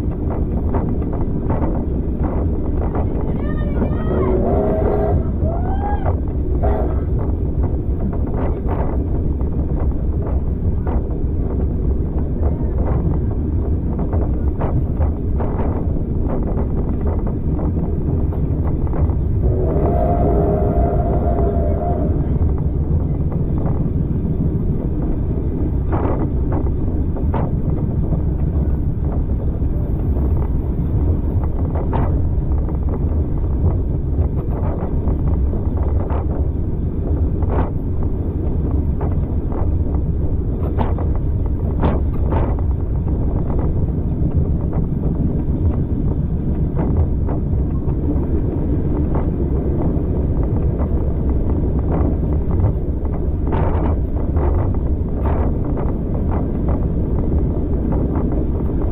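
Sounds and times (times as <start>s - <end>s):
train running rumble: 0.0s - 58.9s
wind buffeting microphone: 0.0s - 58.9s.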